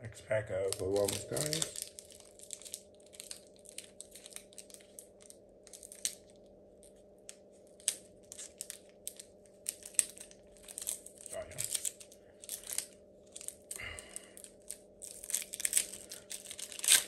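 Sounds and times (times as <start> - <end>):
faint steady hum: 0.0 - 17.0
foil wrapper crinkling: 0.4 - 17.0.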